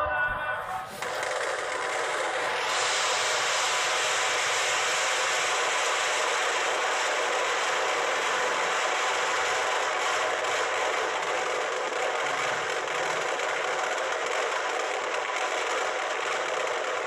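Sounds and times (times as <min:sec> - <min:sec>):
firecrackers crackling: 0:00.6 - 0:17.0.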